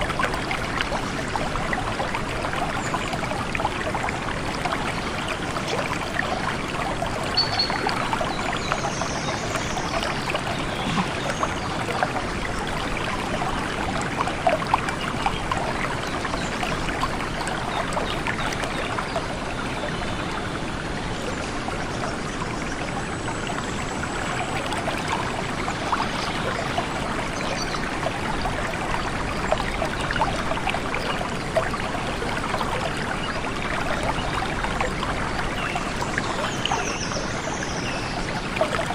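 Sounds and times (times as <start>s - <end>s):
small water splashes: 0.0s - 38.9s
stream water babbling over rocks: 0.0s - 38.9s.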